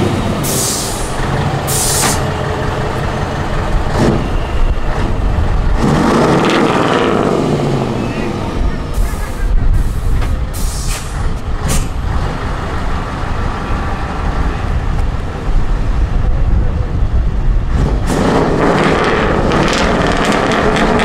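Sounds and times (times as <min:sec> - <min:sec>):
truck engine pulling away: 0:00.0 - 0:21.0.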